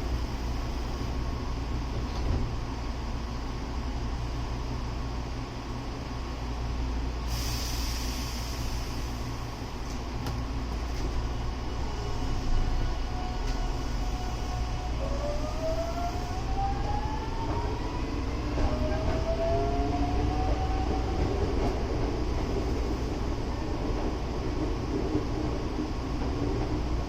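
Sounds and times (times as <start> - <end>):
train inverter whine: 0.0 - 27.0
train wheels rumbling on rail: 0.0 - 27.0.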